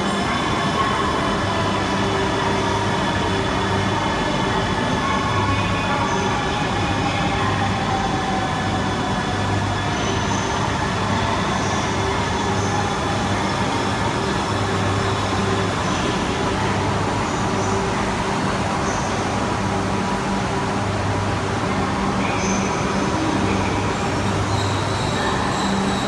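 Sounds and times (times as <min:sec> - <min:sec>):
faint train whine: 0:00.0 - 0:26.0
train rumble and hum: 0:00.0 - 0:26.0.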